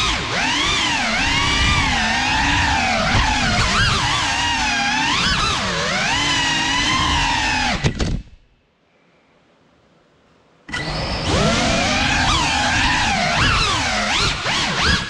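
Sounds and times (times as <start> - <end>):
drone motors whining: 0.0 - 8.1, 10.7 - 15.0.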